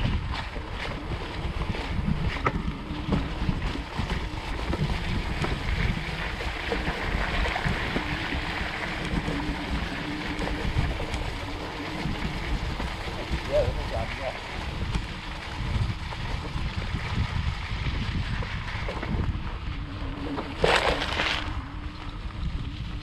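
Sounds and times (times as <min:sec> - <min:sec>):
bike knocks and rattles: 0:00.0 - 0:22.4
electric bike rolling on grass: 0:00.0 - 0:23.0
wind buffeting microphone: 0:00.0 - 0:23.0.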